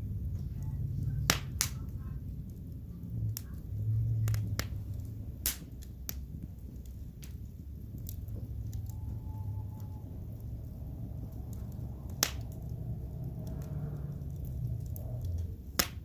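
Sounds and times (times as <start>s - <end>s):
low steady rumble: 0.0s - 16.0s
wood fire popping and crackling: 0.0s - 16.0s.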